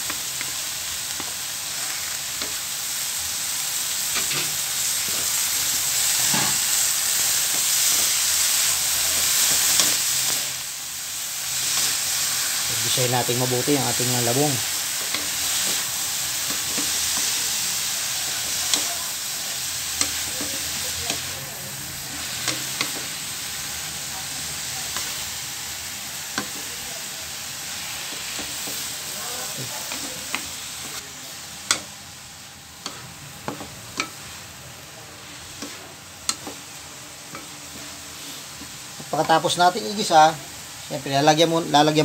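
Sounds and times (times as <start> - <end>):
food sizzling in a hot pan: 0.0 - 42.0.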